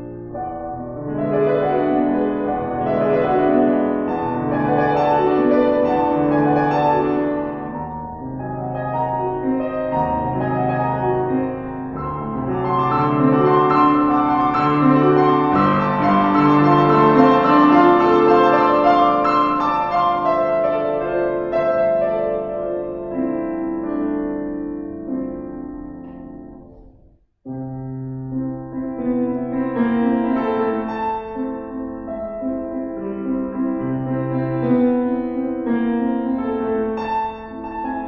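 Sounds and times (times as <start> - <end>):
piano chords: 0.0 - 38.0.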